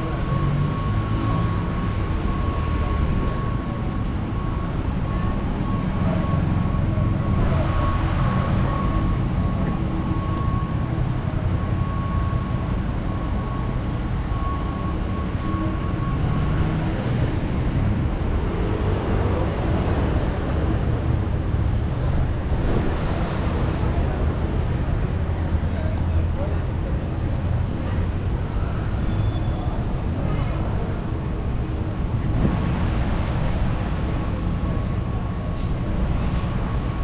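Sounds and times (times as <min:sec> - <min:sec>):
vehicle rumble: 0:00.0 - 0:37.0.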